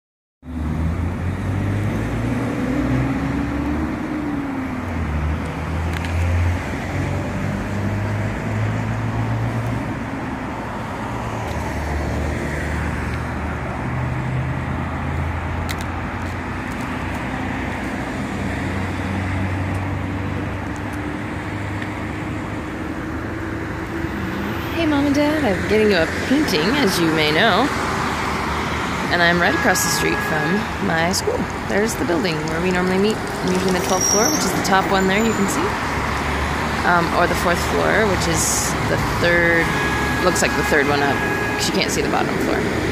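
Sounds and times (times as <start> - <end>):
road traffic passing cars: 0.4 - 42.9.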